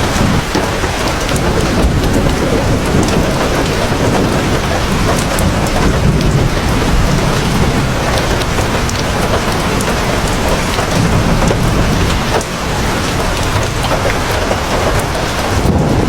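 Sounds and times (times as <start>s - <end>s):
heavy rain: 0.0s - 16.0s
thunder rumble: 0.0s - 16.0s.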